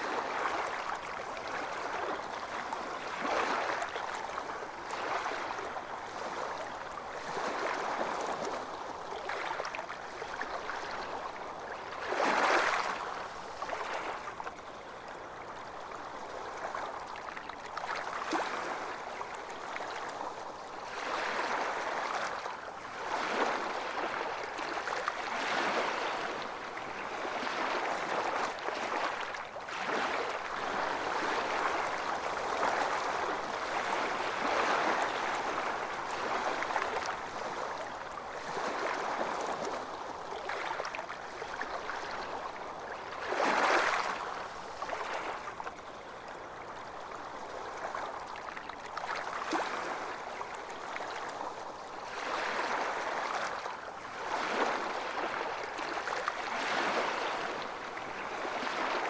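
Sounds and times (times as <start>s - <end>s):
ocean waves breaking on beach: 0.0s - 15.5s, 17.8s - 46.7s, 49.0s - 59.0s.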